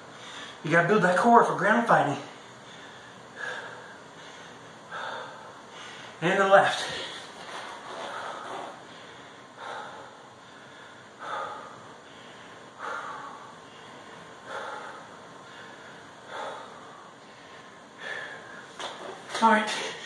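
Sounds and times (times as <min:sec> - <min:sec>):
man breathing hard: 0:00.0 - 0:00.6, 0:02.3 - 0:06.2, 0:06.8 - 0:20.0.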